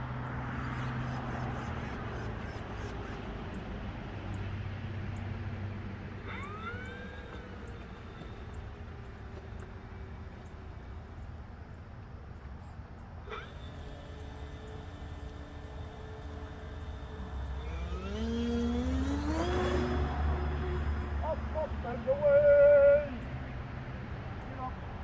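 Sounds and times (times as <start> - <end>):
model plane motor whine: 0.0 - 23.2
propeller drone: 0.0 - 25.0.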